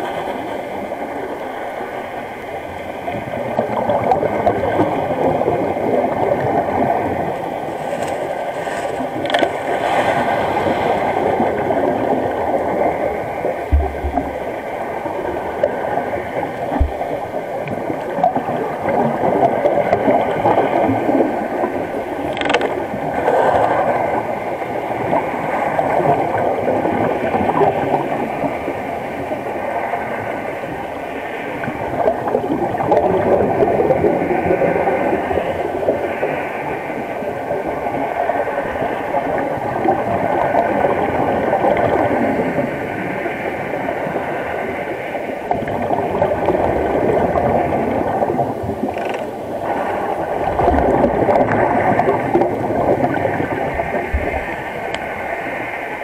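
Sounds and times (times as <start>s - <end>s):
bubbles gurgling: 0.7s - 30.9s, 31.5s - 56.0s.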